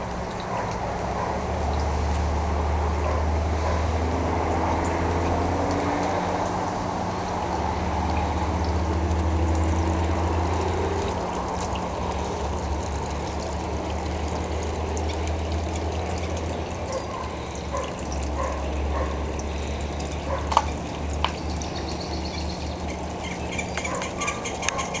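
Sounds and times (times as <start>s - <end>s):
fountain water trickling: 0.0s - 25.0s
low steady hum: 0.0s - 25.0s.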